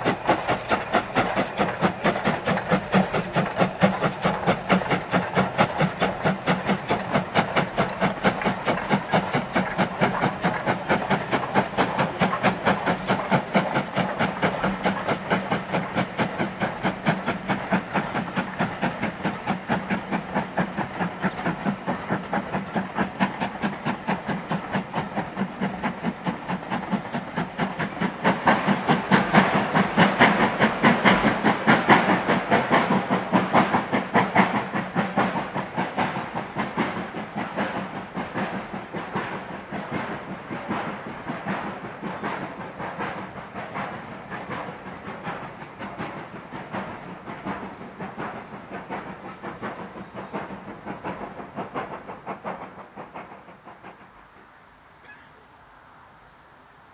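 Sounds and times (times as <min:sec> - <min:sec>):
steam locomotive exhaust beats: 0:00.0 - 0:56.9.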